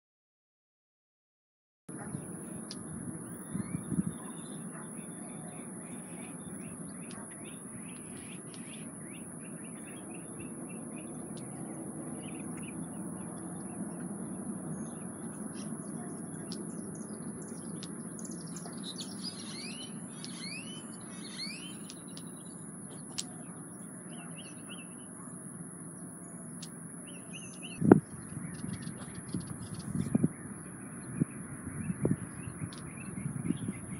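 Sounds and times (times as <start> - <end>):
birds chirping: 1.9 - 33.9
outdoor background hum: 1.9 - 33.9.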